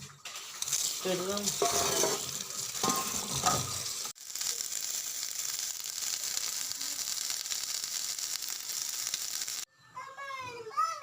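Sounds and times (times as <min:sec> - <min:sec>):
leaves sizzling in a pan: 0:00.1 - 0:09.7.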